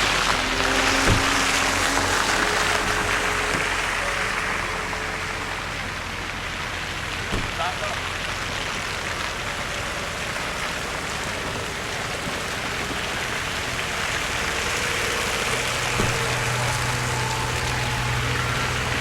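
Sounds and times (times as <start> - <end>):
traffic hiss on wet streets: 0.0 - 19.0
vehicle engine hum: 0.0 - 19.0.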